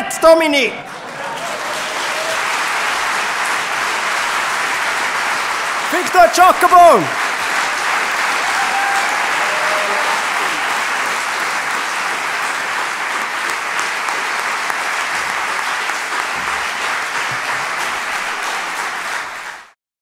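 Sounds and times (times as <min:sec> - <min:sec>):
audience applauding: 0:00.8 - 0:19.8.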